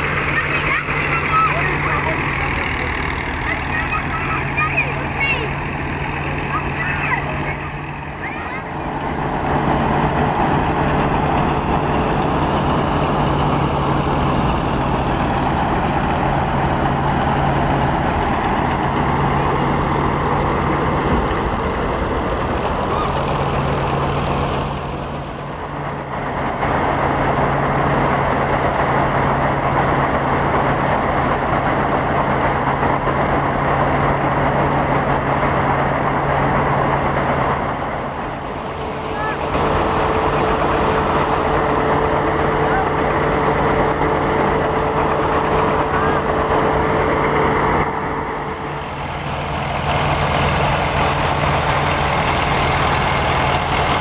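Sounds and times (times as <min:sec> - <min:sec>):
engine running with low hum: 0:00.0 - 0:54.0.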